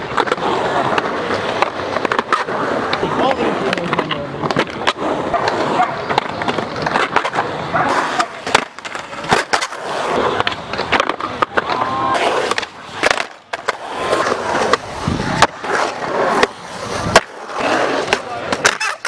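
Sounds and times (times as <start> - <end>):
skateboard clacks and slaps: 0.0 - 19.0
skateboard wheels rolling on concrete: 0.0 - 19.0.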